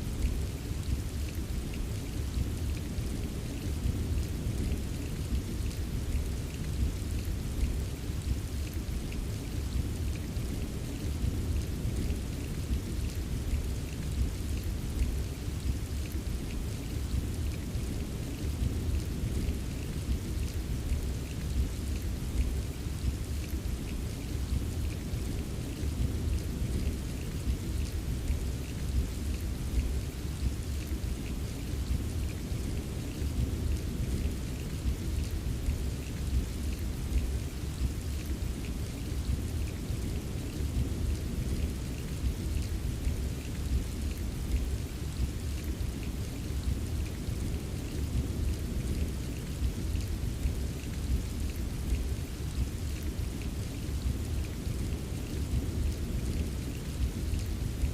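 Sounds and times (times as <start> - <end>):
rain drops ticking: 0.0 - 57.9
steady rainfall: 0.0 - 57.9.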